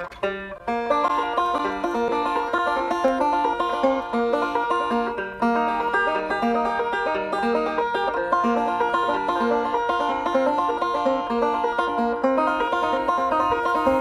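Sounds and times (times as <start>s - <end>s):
banjo picking: 0.0s - 14.0s.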